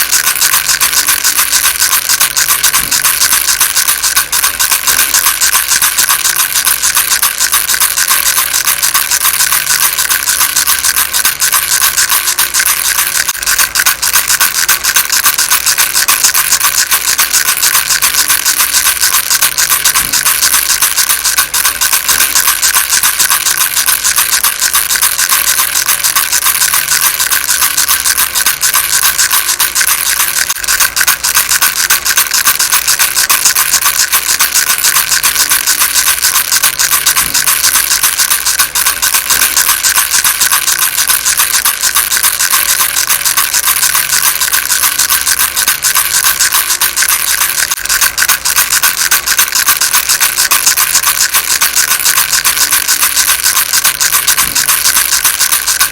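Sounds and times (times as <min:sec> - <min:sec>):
baby rattle shaking: 0:00.0 - 0:55.9.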